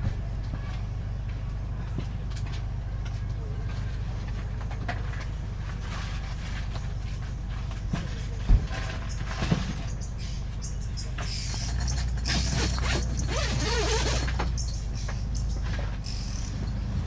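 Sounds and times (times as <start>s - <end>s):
vehicle engine rumble: 0.1s - 17.0s.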